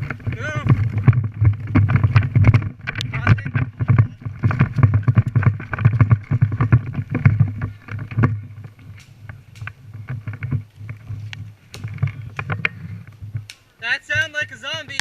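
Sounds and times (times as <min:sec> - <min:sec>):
gear and brush rustling: 0:00.0 - 0:14.9
quick footsteps: 0:00.0 - 0:15.0.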